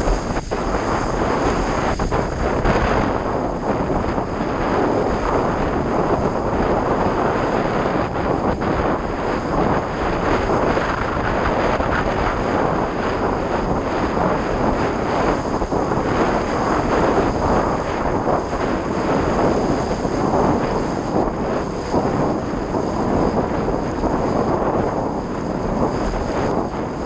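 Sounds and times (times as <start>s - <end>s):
board hissing through water: 0.0s - 27.0s
wind buffeting microphone: 0.0s - 27.0s.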